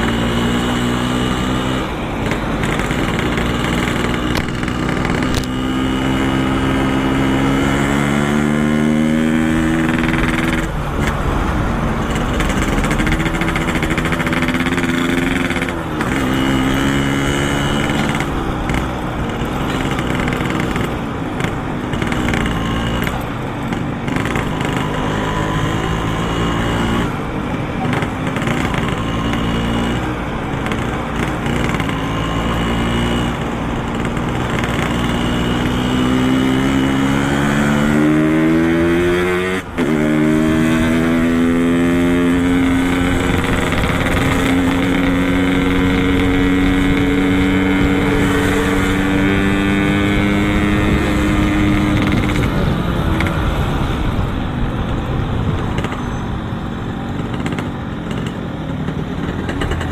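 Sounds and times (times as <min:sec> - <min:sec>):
gear change: 0:00.0 - 0:59.9
two-stroke motorcycle engine revving: 0:00.0 - 0:59.9.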